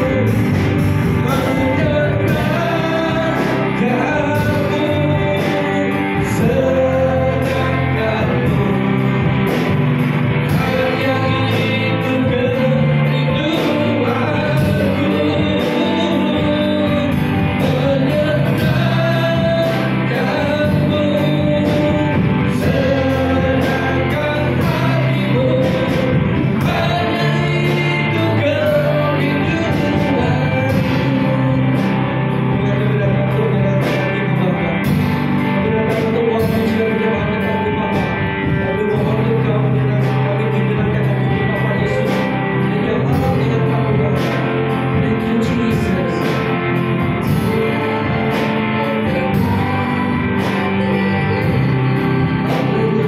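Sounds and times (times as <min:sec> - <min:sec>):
bass guitar: 0:00.0 - 0:53.0
drums: 0:00.0 - 0:53.0
electric guitar: 0:00.0 - 0:53.0
man and woman singing: 0:00.0 - 0:53.0.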